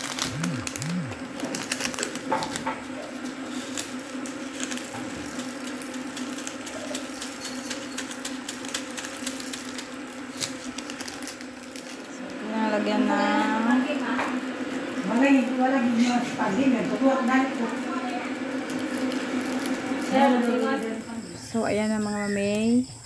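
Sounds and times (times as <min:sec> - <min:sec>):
leaves clicking and rustling: 0:00.0 - 0:22.5
steady low hum: 0:00.0 - 0:23.0.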